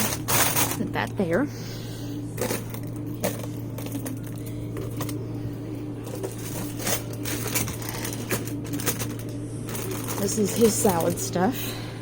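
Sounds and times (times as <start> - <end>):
refrigerator low hum: 0.0 - 12.0.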